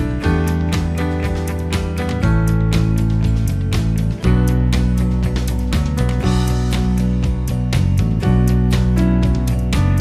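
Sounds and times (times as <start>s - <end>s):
steady bass: 0.0s - 10.0s
strummed guitar chords: 0.0s - 10.0s.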